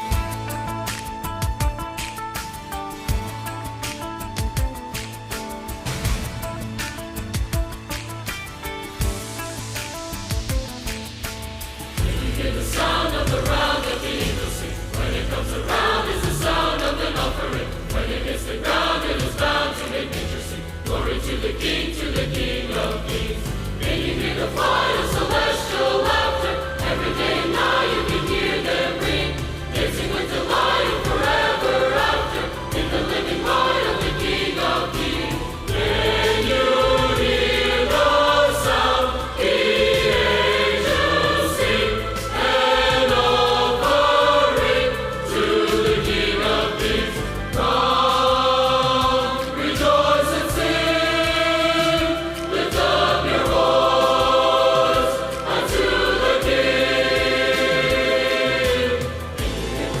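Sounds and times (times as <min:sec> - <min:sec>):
instrumental accompaniment: 0:00.0 - 1:00.0
choir singing: 0:11.9 - 1:00.0.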